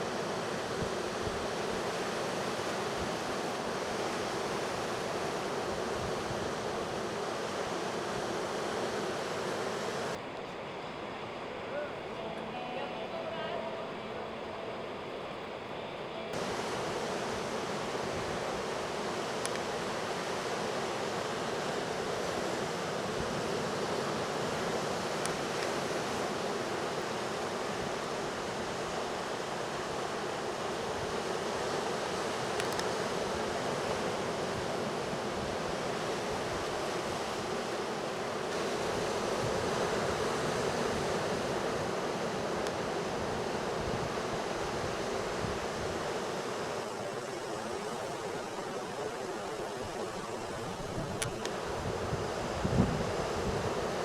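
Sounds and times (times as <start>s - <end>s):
ocean surf: 0.0s - 54.0s
wind: 0.0s - 54.0s.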